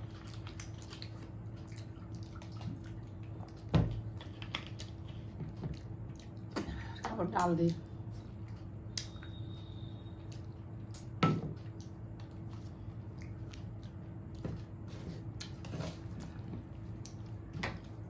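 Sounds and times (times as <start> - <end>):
faint steady hum: 0.0 - 18.0
soft wet squelches: 0.0 - 18.0.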